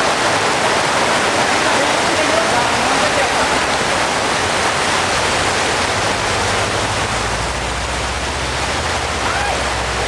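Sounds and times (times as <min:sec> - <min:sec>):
heavy rain: 0:00.0 - 0:10.0
rushing floodwater: 0:00.0 - 0:10.0.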